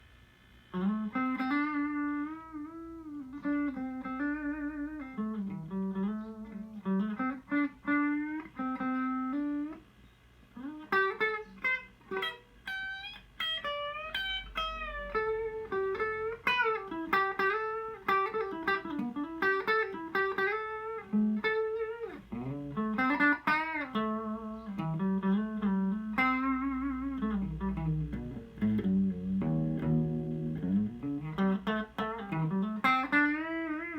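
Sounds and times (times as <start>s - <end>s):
clean electric guitar melody: 0.7s - 9.9s, 10.5s - 33.9s.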